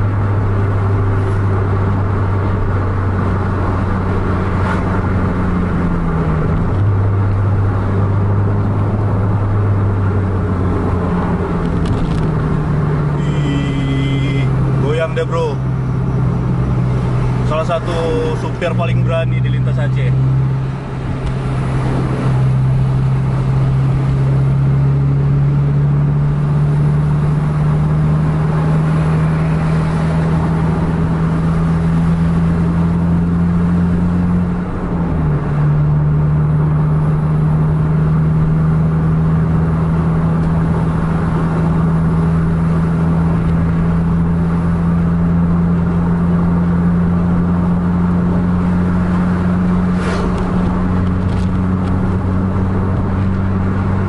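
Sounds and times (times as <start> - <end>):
road noise: 0.0 - 54.0
vehicle engine droning: 0.0 - 54.0.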